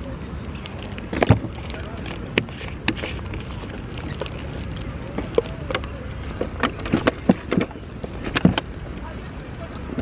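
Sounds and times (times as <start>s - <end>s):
surf rumble: 0.0s - 10.0s
wind: 0.0s - 10.0s.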